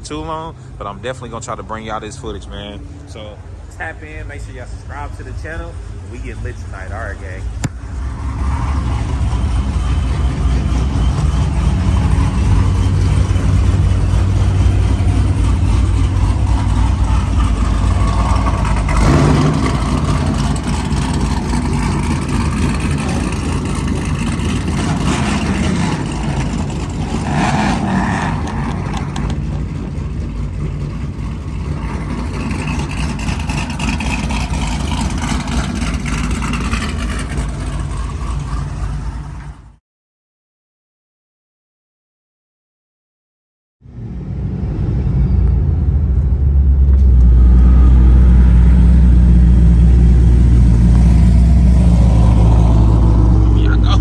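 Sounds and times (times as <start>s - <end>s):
car engine deep rumble: 0.0s - 39.8s, 43.8s - 54.0s.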